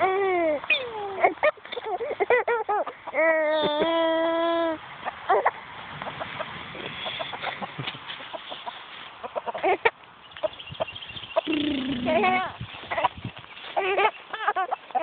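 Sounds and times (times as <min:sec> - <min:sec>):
chickens clucking: 0:00.0 - 0:03.9, 0:04.9 - 0:15.0
drawn-out chicken calls: 0:00.0 - 0:03.9, 0:04.8 - 0:15.0.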